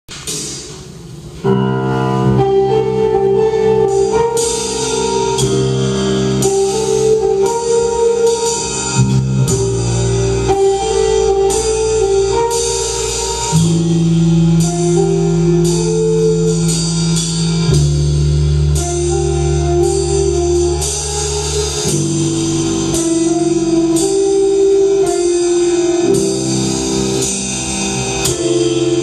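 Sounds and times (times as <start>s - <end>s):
keyboard chords: 1.1s - 29.0s
drums keeping a steady beat: 3.8s - 29.0s.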